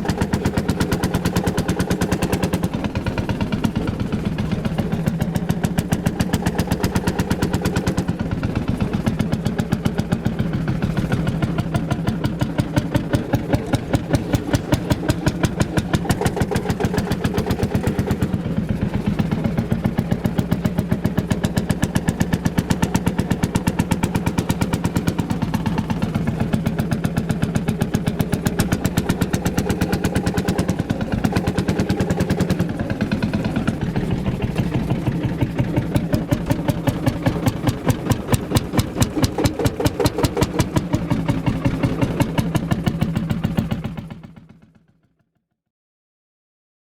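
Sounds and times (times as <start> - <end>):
tractor engine pulsing: 0.0 - 44.6.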